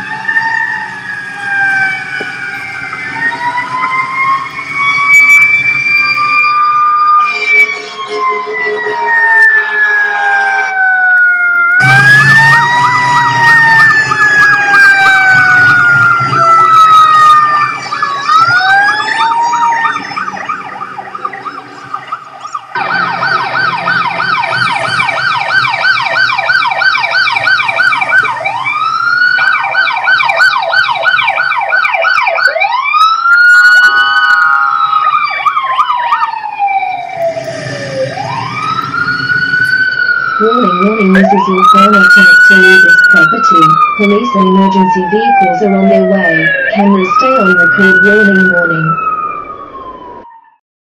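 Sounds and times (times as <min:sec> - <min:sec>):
police sirens wailing and yelping: 0:00.0 - 0:50.6.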